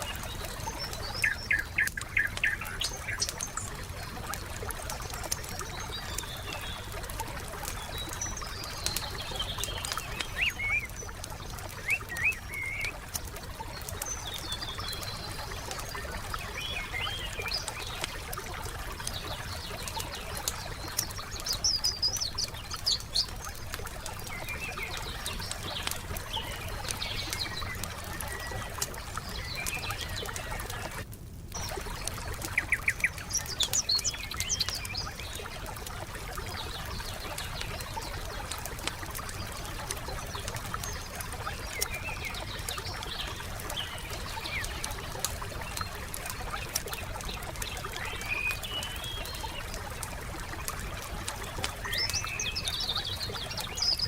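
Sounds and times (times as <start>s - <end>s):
campfire crackling and popping: 0.0s - 54.0s
songbirds chirping: 0.0s - 54.0s.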